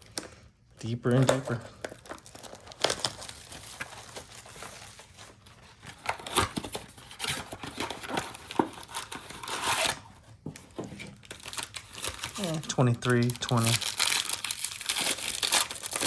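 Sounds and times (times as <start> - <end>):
card packaging crinkling and tearing: 0.0 - 16.0.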